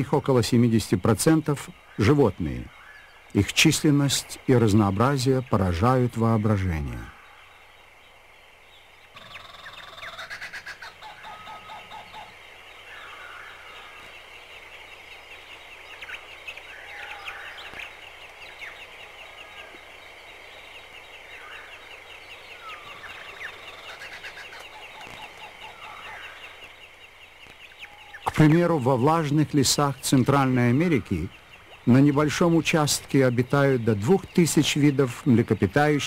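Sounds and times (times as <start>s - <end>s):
birds calling: 0.0s - 36.0s.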